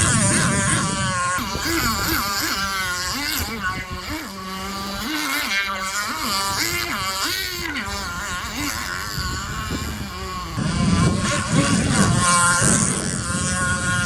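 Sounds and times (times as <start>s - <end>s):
small two-stroke engine revving: 0.0s - 14.0s.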